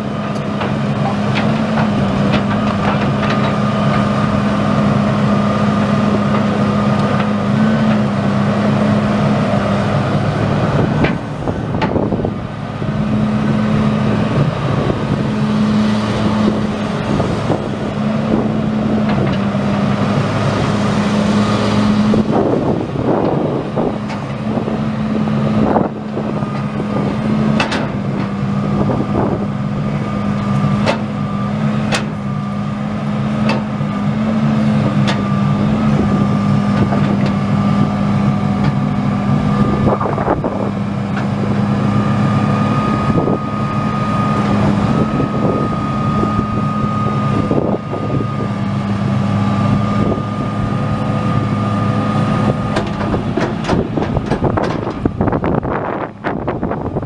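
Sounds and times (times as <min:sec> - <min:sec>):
diesel engine running: 0:00.0 - 0:57.0
high whine: 0:02.4 - 0:57.0.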